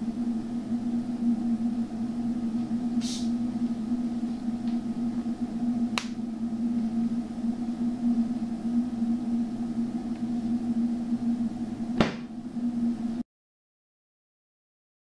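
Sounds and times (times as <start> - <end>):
low electrical hum: 0.0 - 13.2.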